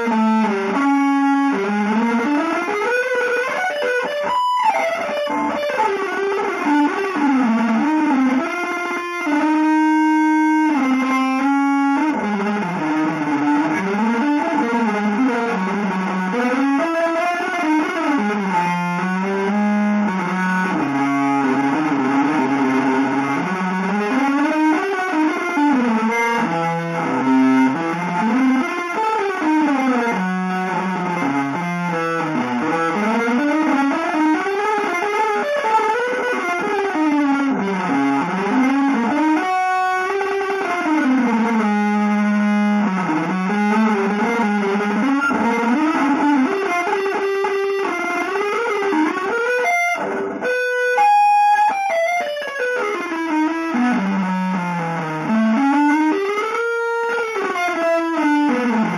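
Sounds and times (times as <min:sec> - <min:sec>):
electric guitar sliding notes: 0:00.0 - 0:58.9.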